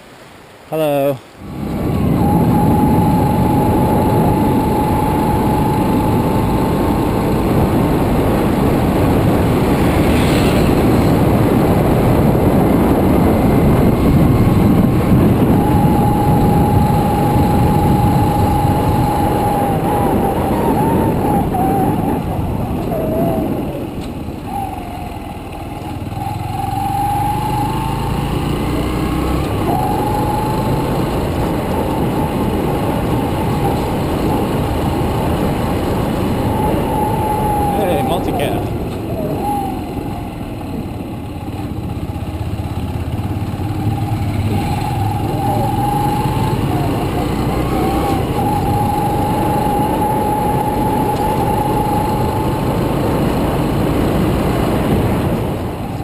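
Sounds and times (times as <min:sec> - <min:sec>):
motorcycle engine whine: 0:00.8 - 0:56.0
wind rushing over microphone: 0:01.3 - 0:56.0.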